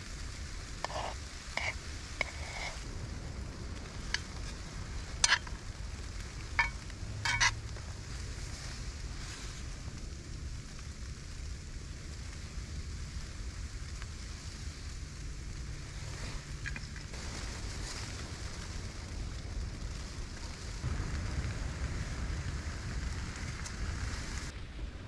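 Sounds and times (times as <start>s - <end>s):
fried rice sizzling in skillet: 0.0s - 25.0s.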